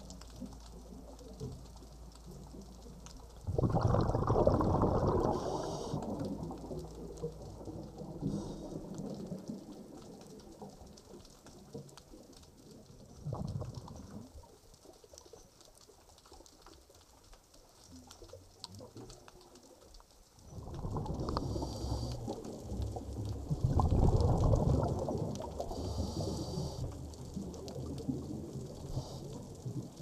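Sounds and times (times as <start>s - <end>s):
underwater bubbling and gurgling: 0.0s - 30.0s.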